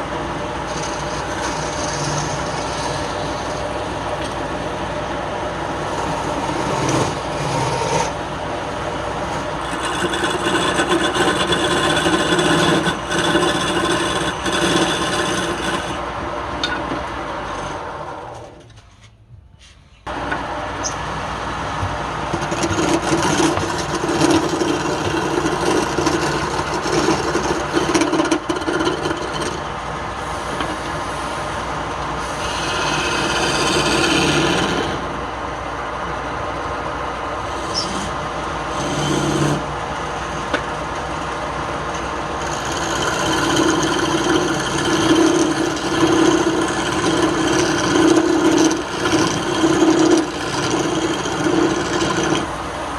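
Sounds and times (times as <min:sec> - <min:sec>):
wood lathe running: 0:00.0 - 0:18.5, 0:20.1 - 0:52.9
tool scraping spinning wood: 0:00.0 - 0:18.6, 0:20.1 - 0:52.9.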